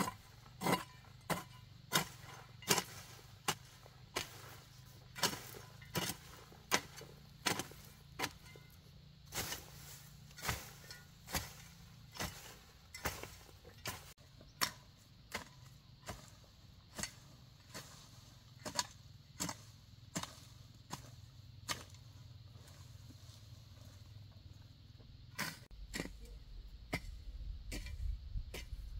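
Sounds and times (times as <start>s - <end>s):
hoe chopping into soil: 0.0s - 22.0s, 25.3s - 28.8s.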